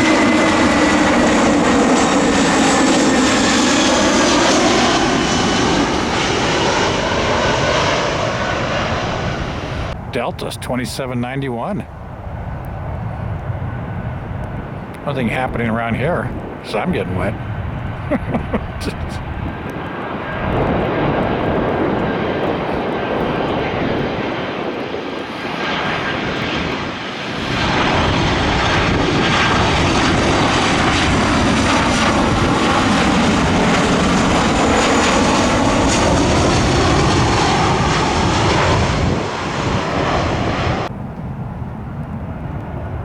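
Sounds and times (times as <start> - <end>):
jet airliner passing: 0.0 - 43.0.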